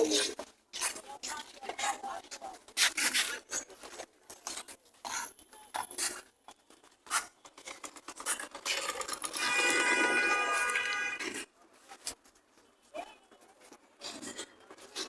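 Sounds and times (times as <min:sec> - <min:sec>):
market clattering and rustling: 0:00.0 - 0:15.0.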